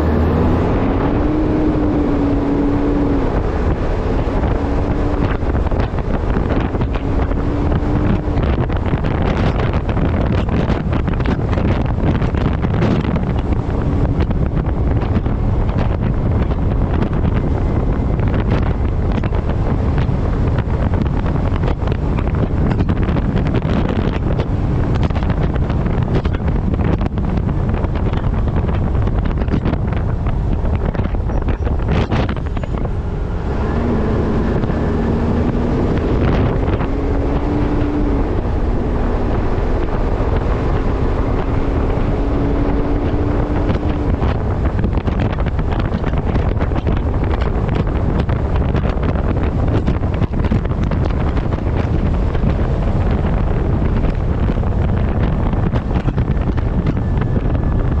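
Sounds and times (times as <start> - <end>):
road and vehicle rumble: 0.0 - 58.0
wind buffeting microphone: 0.0 - 58.0.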